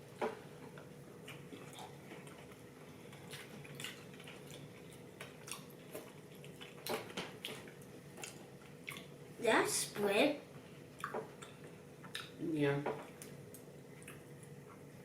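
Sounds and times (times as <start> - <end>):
people chewing and eating: 0.0 - 9.2, 10.8 - 15.0
faint steady hum: 0.0 - 15.0.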